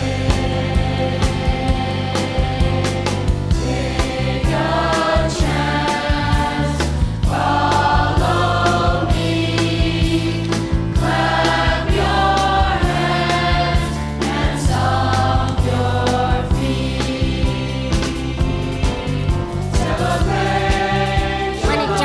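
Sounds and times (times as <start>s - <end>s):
band with bass and drums: 0.0s - 22.0s
choir singing: 0.0s - 22.0s.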